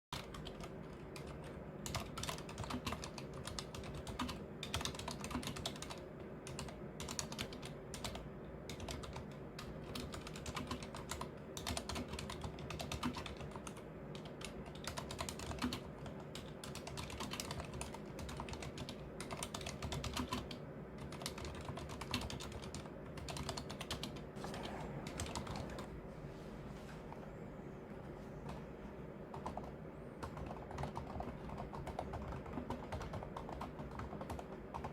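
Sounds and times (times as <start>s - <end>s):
mechanical keyboard typing: 0.2s - 25.9s, 29.3s - 34.9s.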